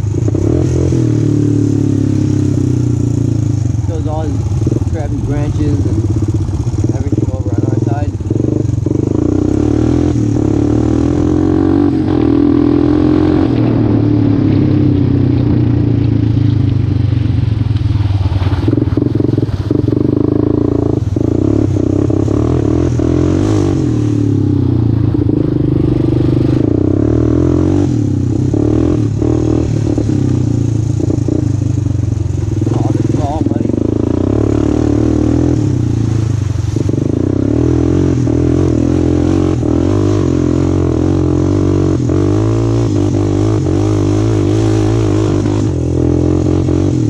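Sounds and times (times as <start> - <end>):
atv engine revving: 0.0 - 47.0.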